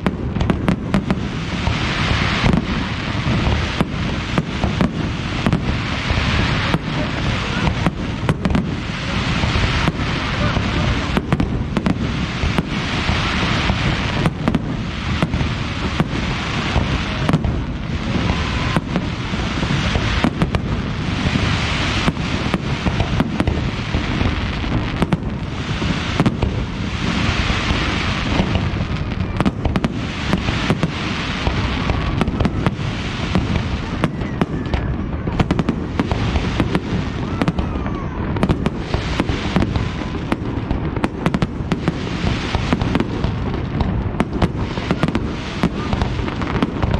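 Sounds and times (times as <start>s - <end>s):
fireworks bangs and booms: 0.0s - 46.9s
fireworks crackling: 0.0s - 46.9s.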